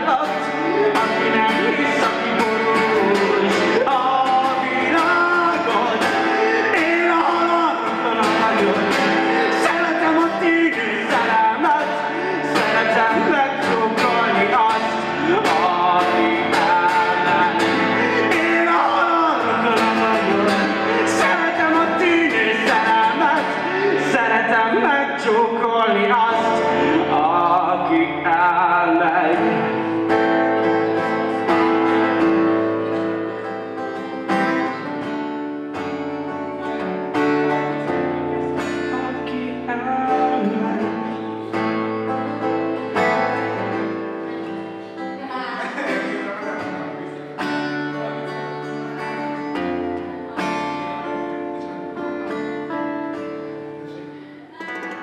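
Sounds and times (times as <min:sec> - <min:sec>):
acoustic guitar chords: 0:00.0 - 0:55.0
man singing: 0:00.0 - 0:55.0.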